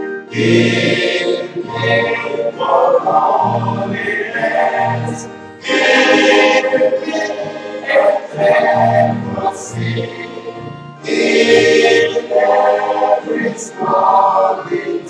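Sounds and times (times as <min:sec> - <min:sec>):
group singing a hymn: 0:00.0 - 0:15.0.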